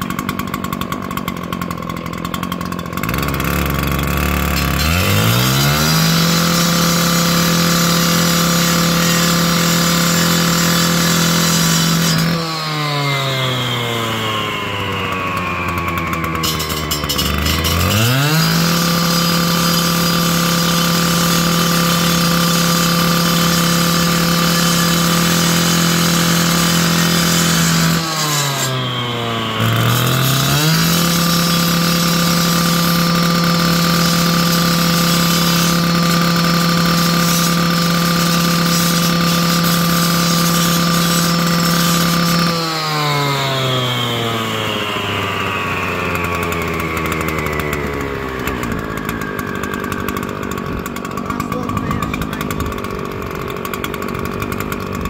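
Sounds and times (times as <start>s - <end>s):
power tool motor running: 0.0s - 55.0s.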